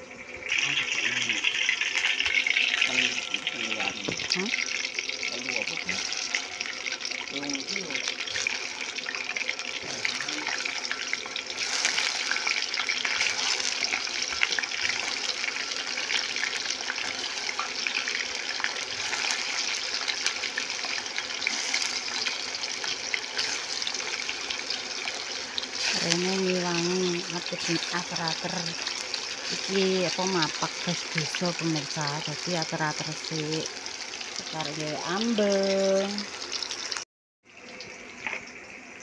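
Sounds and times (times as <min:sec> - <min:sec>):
tofu sizzling in hot oil: 0:00.4 - 0:39.0.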